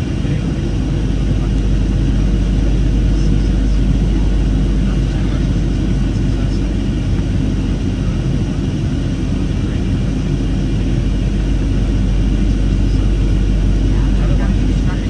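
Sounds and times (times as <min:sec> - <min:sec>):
airplane cabin rumble: 0:00.0 - 0:15.0
faint high engine tones: 0:00.0 - 0:15.0.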